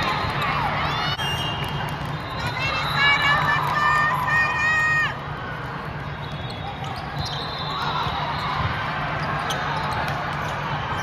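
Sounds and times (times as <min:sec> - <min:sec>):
distant voices in large hall: 0:00.0 - 0:11.0.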